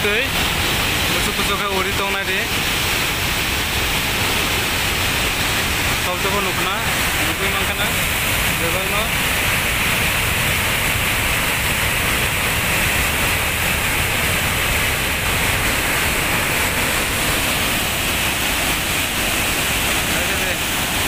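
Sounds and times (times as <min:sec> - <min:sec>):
water rushing down a spillway: 0:00.0 - 0:21.0.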